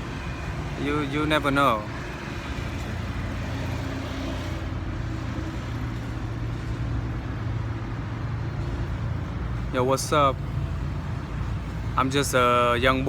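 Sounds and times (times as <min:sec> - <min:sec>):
traffic low rumble: 0:00.0 - 0:13.0.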